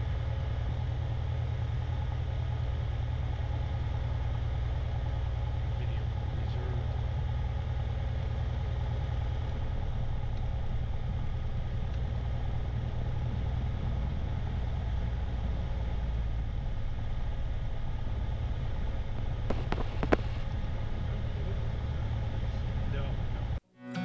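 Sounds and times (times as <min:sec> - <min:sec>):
light aircraft engine droning: 0:00.0 - 0:23.6.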